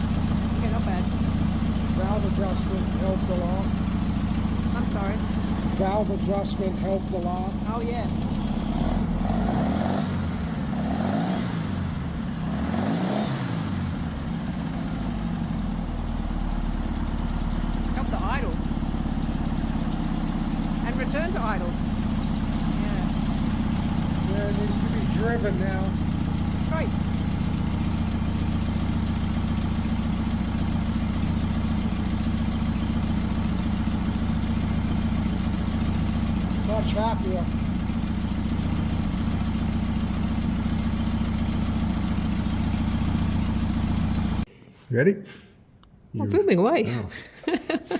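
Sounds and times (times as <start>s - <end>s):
car engine revving and idling: 0.0s - 44.5s.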